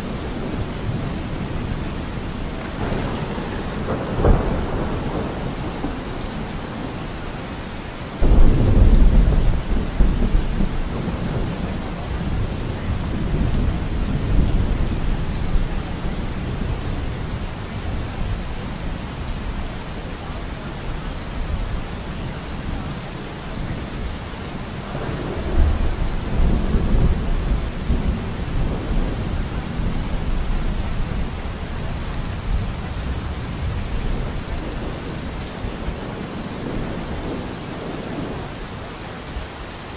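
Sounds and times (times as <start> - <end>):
thunder rumbling: 0.0 - 7.6, 8.2 - 19.6, 22.7 - 38.6
steady rain: 0.0 - 39.9.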